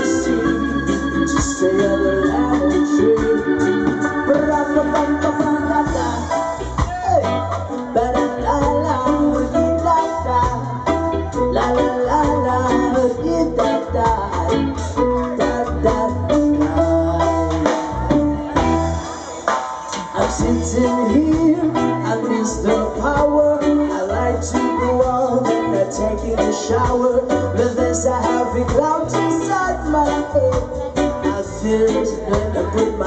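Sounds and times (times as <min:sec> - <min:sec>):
guitar: 0:00.0 - 0:33.0
live band playing pop: 0:00.0 - 0:33.0.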